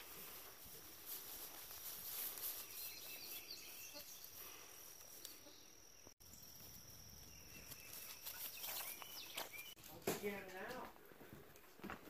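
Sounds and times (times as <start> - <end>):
faint rustling in grass: 0.0 - 9.8.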